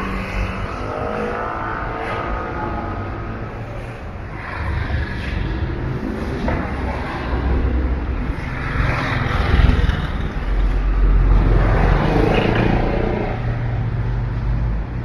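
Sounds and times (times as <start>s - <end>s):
vehicles driving past: 0.0s - 15.0s.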